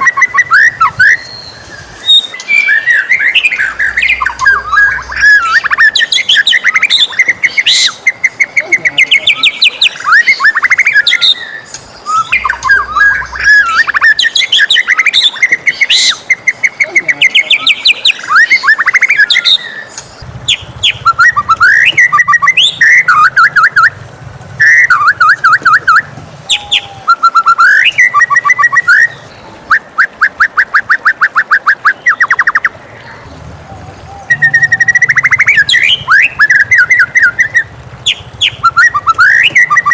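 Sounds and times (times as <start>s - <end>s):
songbird singing whistles and trills: 0.0s - 24.0s, 24.6s - 32.8s, 33.7s - 39.9s.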